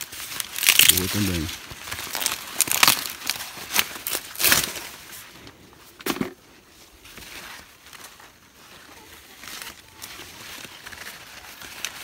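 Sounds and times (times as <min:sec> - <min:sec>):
corn husks rustling: 0:00.0 - 0:12.0.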